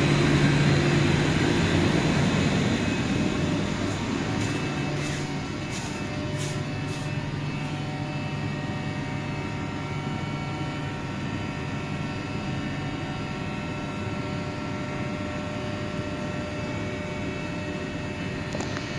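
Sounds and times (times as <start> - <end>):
machinery humming: 0.0 - 18.9.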